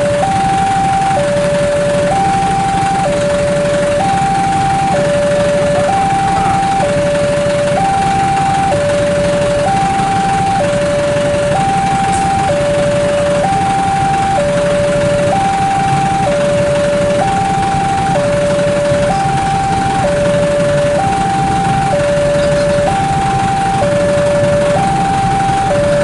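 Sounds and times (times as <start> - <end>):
two-tone crossing alarm: 0.0 - 26.0.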